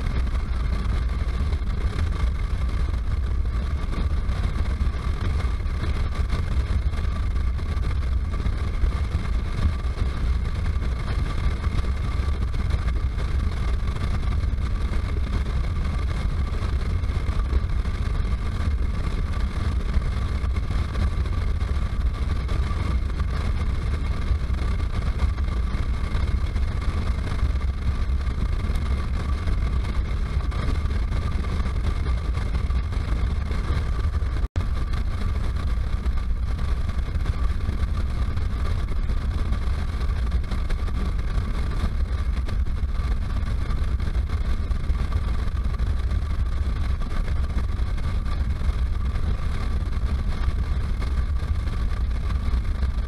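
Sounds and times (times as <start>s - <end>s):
motorcycle engine droning: 0.0s - 53.0s
wind rumble on microphone: 0.0s - 53.0s.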